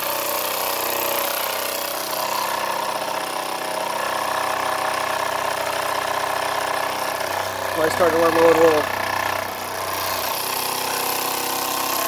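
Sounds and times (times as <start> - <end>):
toy steam engine chuffing: 0.0 - 12.0.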